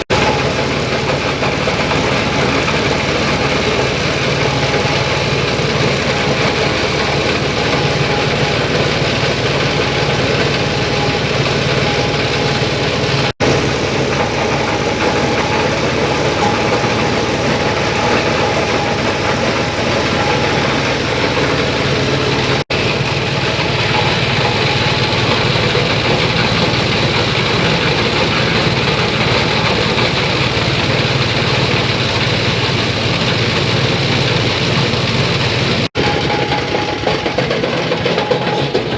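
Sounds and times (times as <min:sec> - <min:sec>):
grinding machine drone: 0:00.0 - 0:38.9.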